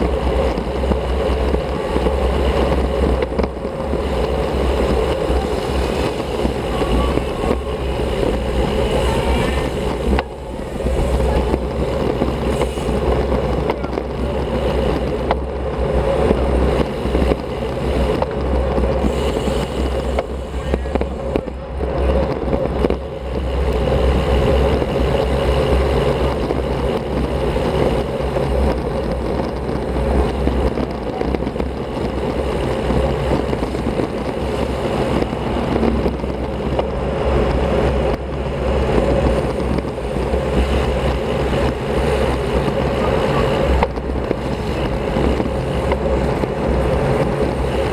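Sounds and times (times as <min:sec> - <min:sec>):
bike tyres rumbling on road: 0:00.0 - 0:47.9
wind rushing on microphone: 0:00.0 - 0:47.9.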